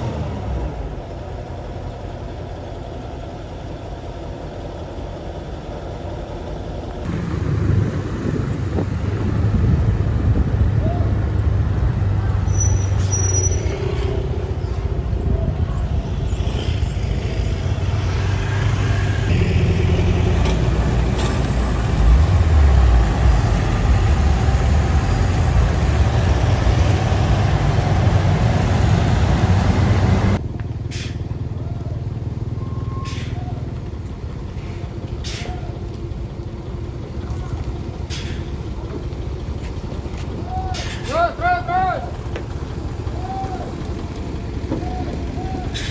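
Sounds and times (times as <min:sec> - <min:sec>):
heavy diesel engine rumbling: 0:00.0 - 0:45.9.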